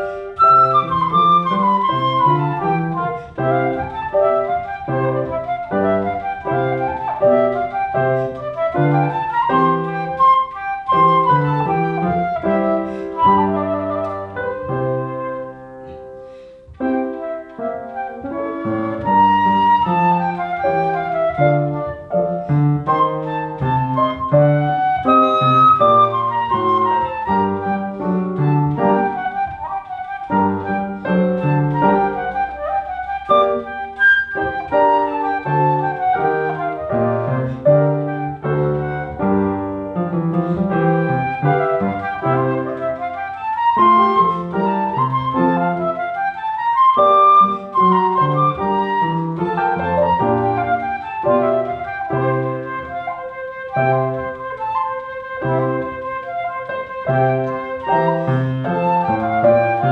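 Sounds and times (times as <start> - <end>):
flute playing quick notes: 0.0 - 59.9
piano accompaniment: 0.0 - 59.9.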